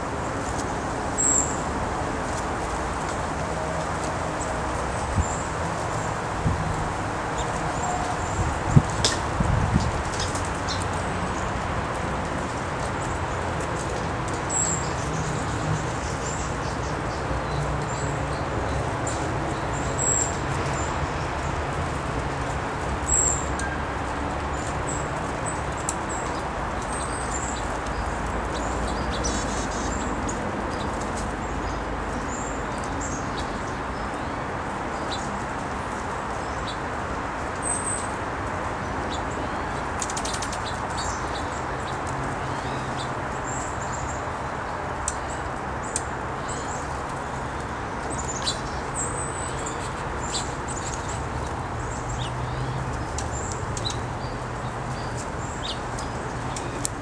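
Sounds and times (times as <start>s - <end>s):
small birds chirping: 7.3s - 57.0s.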